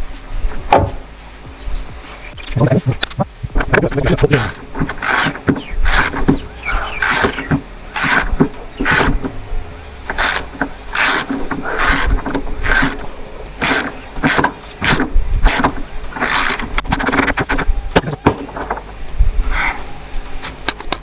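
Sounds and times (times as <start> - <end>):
hand tools scraping and clicking: 3.0 - 21.0.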